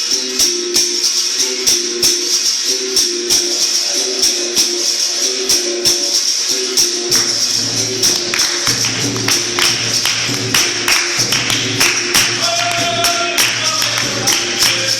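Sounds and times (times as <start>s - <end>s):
shaker and jingle hiss: 0.0s - 14.9s.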